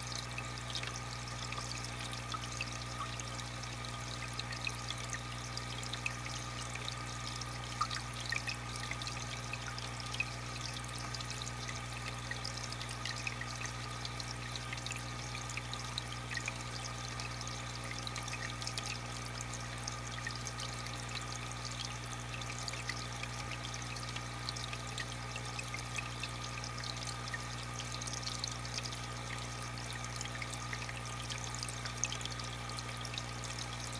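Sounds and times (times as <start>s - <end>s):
filter pump hum: 0.0s - 33.9s
water trickling and splashing: 0.0s - 33.9s.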